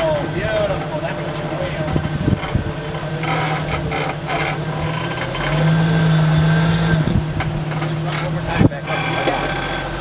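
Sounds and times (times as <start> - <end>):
creaking and scraping: 0.0 - 10.0
engine running low: 0.0 - 10.0.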